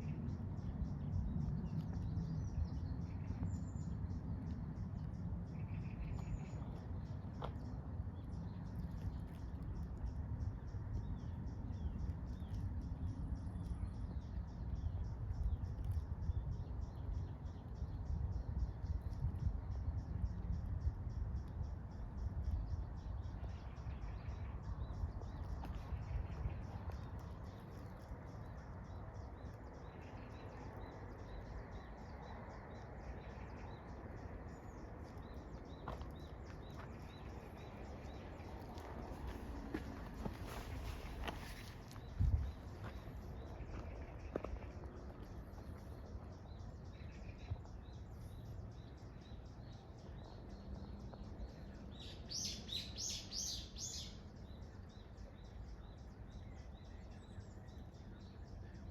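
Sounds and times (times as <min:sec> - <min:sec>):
low rumble of wind: 0:00.0 - 0:58.9.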